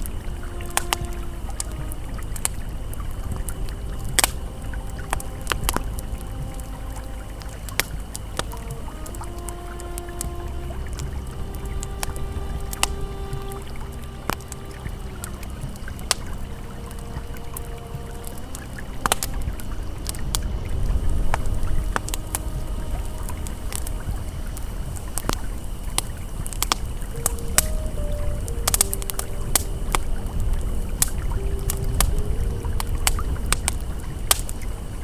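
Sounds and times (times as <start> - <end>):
campfire crackling and popping: 0.0 - 35.0
river flowing: 0.0 - 35.0
soft ambient music: 0.0 - 35.0.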